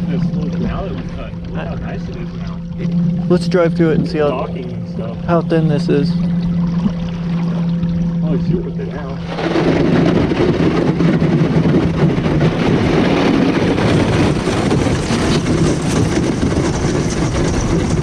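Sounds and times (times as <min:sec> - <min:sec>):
ice crackling against hull: 0:00.0 - 0:18.0
low electric motor hum: 0:00.0 - 0:18.0.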